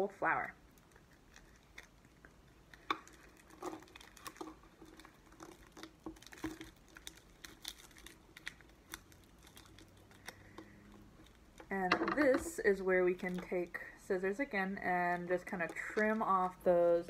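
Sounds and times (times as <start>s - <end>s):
plastic film crinkling: 0.6s - 17.0s.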